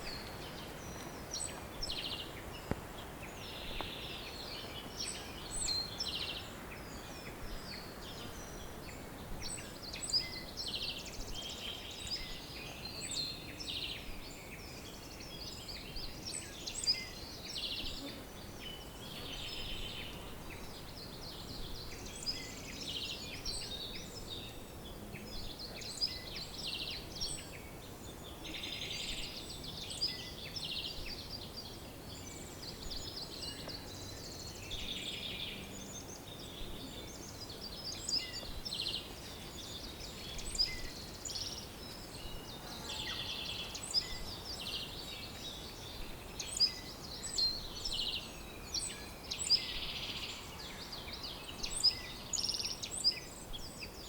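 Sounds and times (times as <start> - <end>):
faint steady hiss: 0.0 - 54.0
songbirds singing and calling: 0.0 - 54.0.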